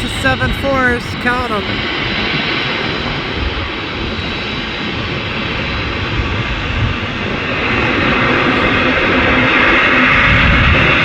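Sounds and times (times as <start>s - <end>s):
high engine whine: 0.0s - 11.0s
jet engines running: 0.0s - 11.0s.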